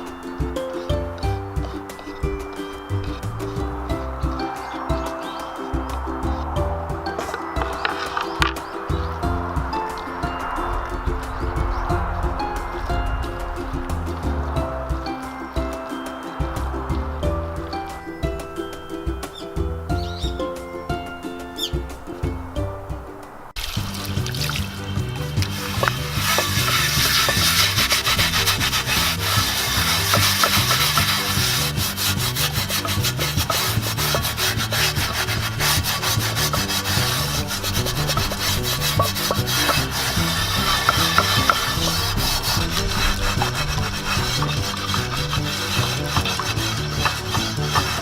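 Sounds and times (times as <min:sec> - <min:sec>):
scrubbing cast iron pan: 0:00.0 - 0:48.0.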